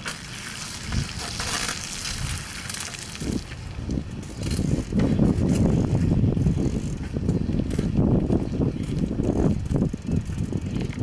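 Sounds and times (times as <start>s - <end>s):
bicycle chain rattling and clicking: 0.0s - 11.0s.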